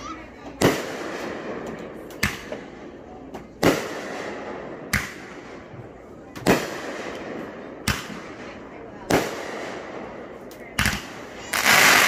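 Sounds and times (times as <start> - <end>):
fireworks bangs with echo: 0.5 - 12.0.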